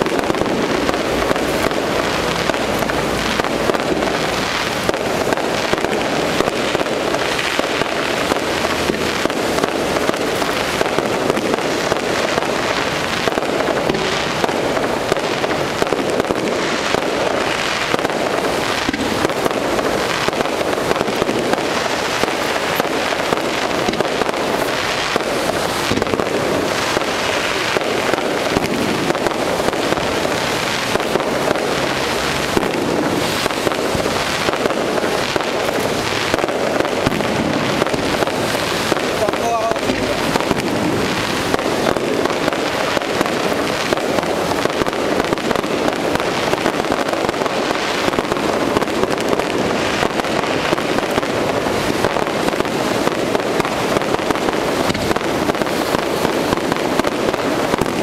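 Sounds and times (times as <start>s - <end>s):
fireworks bursts and crackle: 0.0s - 58.0s.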